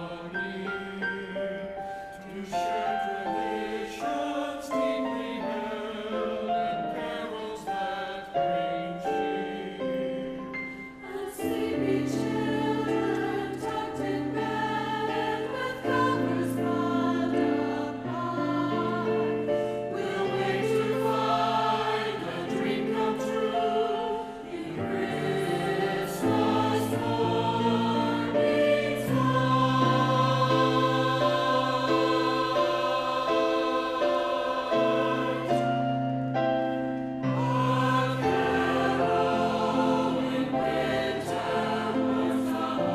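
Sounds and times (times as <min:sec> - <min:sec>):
choir singing held chords: 0:00.0 - 0:42.9.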